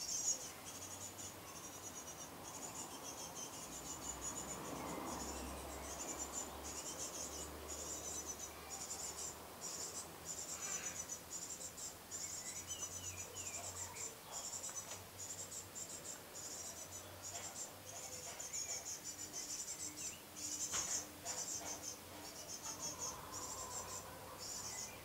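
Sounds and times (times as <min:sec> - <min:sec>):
nestlings chirring: 0:00.0 - 0:25.0.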